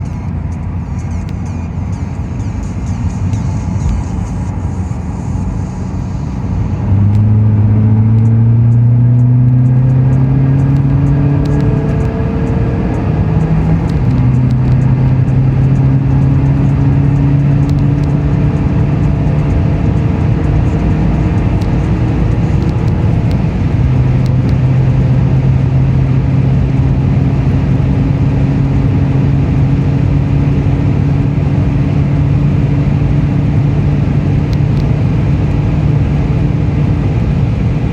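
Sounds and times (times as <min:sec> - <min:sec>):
turbodiesel car accelerating: 0:00.0 - 0:37.9.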